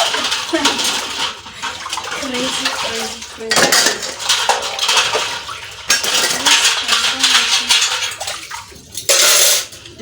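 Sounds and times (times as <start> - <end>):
plates and cutlery clattering: 0.0 - 10.0.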